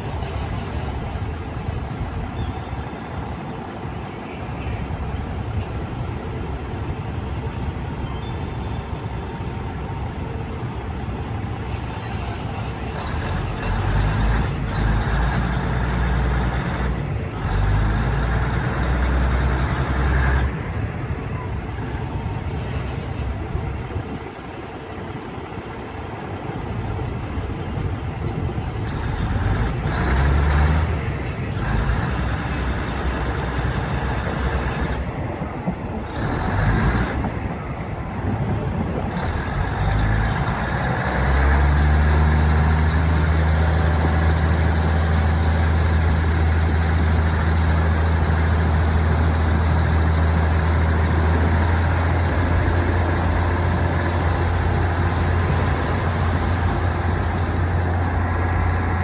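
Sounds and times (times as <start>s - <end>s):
diesel train engine hum: 0.0s - 59.0s
rushing rail and air noise: 0.0s - 59.0s.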